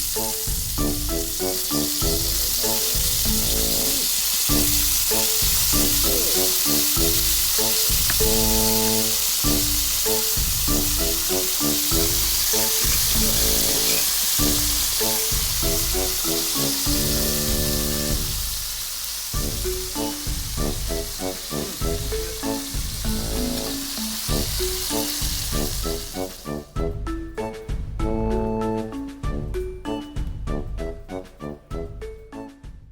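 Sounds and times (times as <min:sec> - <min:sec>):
music with plucked melody: 0:00.0 - 0:18.2, 0:19.4 - 0:32.9
meat sizzling: 0:00.0 - 0:26.7.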